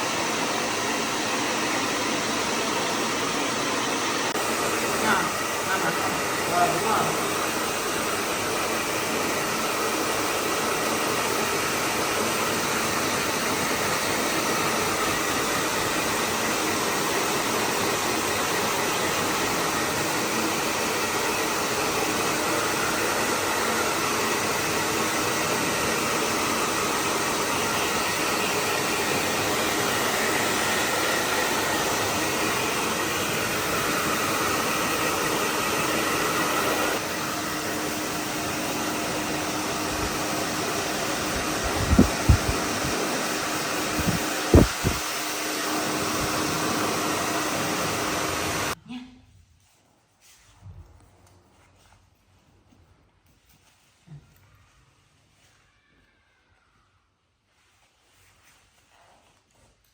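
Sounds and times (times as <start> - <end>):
hair dryer blowing: 0.0 - 48.8.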